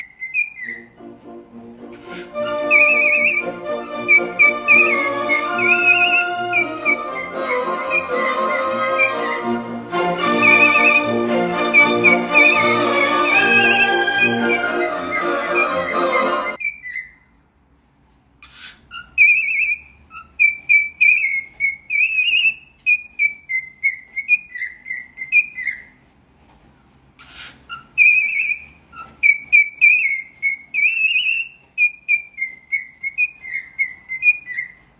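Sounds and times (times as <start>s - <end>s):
parrot whistling a melody: 0.0s - 1.0s, 2.0s - 17.2s, 18.9s - 26.0s, 27.2s - 34.8s.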